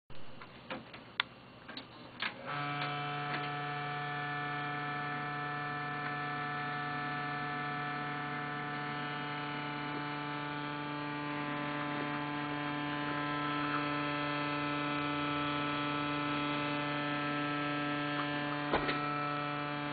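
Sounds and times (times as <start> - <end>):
computer droning hum: 0.1 - 19.9.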